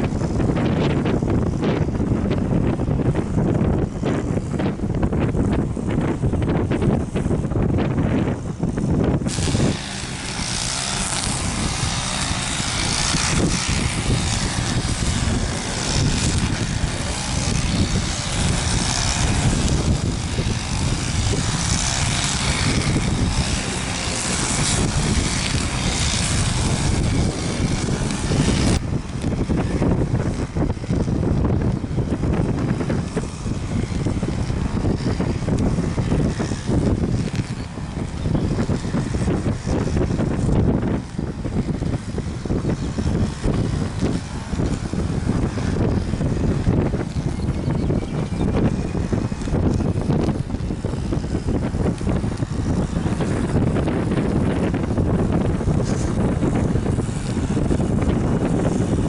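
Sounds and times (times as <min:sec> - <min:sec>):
airliner engines passing: 0:00.0 - 0:59.0
wind rumbling on microphone: 0:00.0 - 0:59.0.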